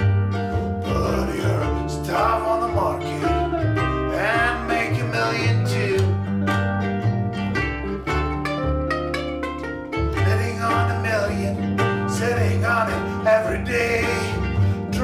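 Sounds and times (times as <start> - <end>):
lead line with sliding notes: 0.0 - 15.0
plucked upright bass: 0.0 - 15.0
strummed ukulele: 0.0 - 15.0.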